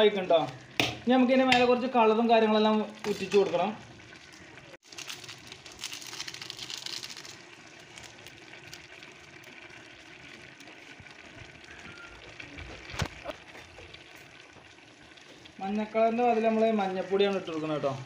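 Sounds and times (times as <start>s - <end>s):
rice simmering in a pot: 0.0s - 18.0s.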